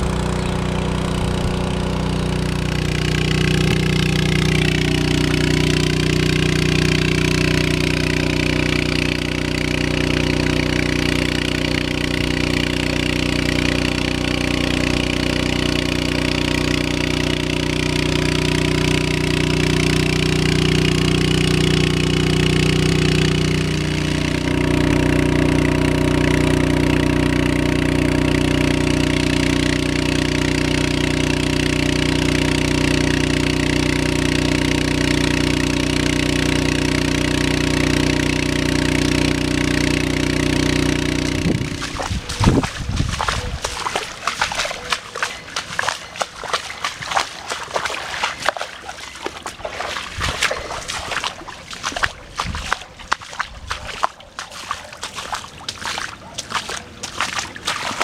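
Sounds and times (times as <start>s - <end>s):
motor running: 0.0s - 58.0s
rain splashing on water: 0.0s - 58.0s.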